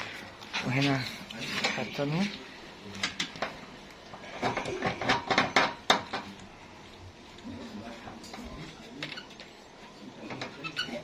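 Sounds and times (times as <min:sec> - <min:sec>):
quiet handling sounds: 0:00.0 - 0:11.0.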